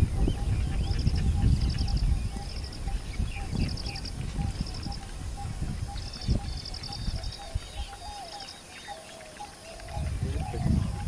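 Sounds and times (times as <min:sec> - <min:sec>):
fast-pulsed high bird calls: 0:00.0 - 0:11.0.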